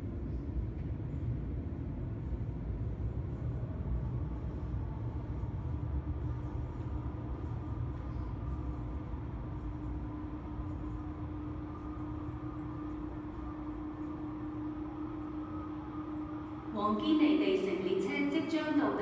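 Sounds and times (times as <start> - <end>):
faint steady hums: 0.0 - 19.0
steady low rumble: 0.0 - 19.0.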